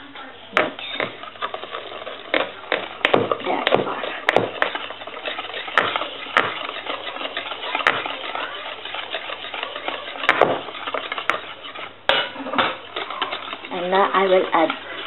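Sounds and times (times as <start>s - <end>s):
whisk clicking on bowl: 0.8s - 15.0s
whisk swishing in batter: 0.8s - 15.0s.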